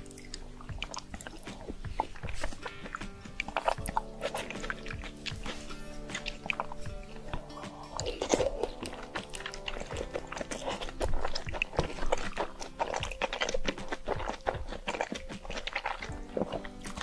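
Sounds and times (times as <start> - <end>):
background music: 0.0 - 17.0
close chewing and biting: 0.0 - 17.0.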